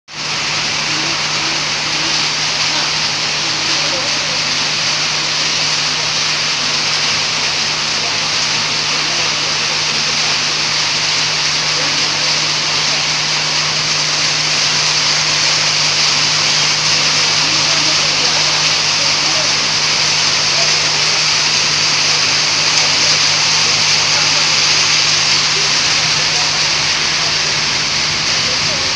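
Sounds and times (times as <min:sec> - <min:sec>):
heavy rain hissing: 0:00.1 - 0:28.9.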